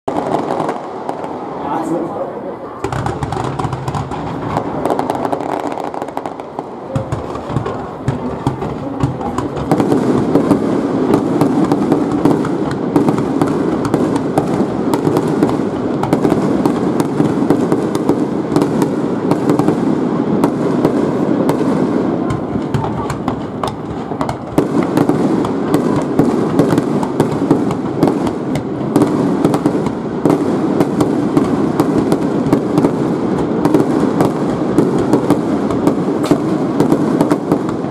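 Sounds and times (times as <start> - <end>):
firework shells bursting: 2.8 - 37.9.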